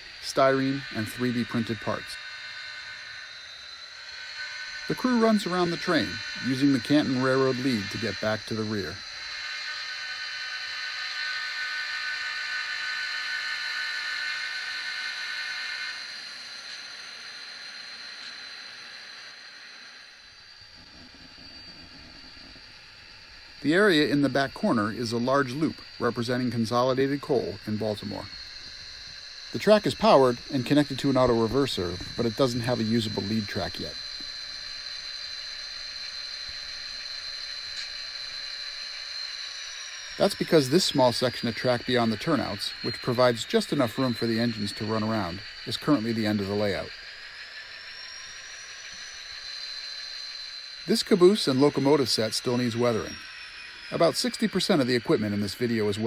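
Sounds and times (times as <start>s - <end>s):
model trains whirring and whining: 0.0s - 56.0s.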